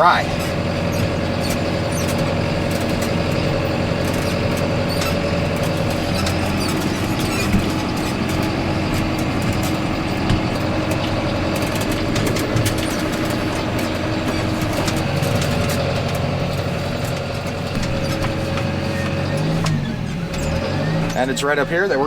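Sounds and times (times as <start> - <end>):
tractor engine running: 0.0 - 22.0
light clicks and rattles: 0.4 - 21.4.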